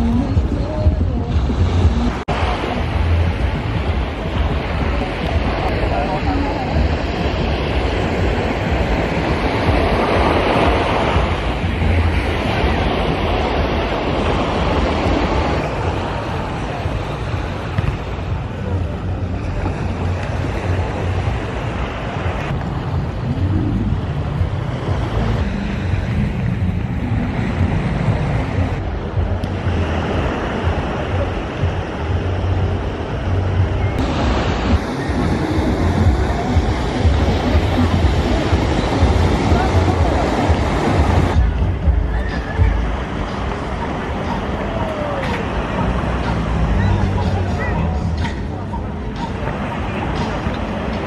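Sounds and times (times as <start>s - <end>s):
surf washing ashore: 0.0s - 51.0s
wind buffeting microphone: 0.0s - 51.0s.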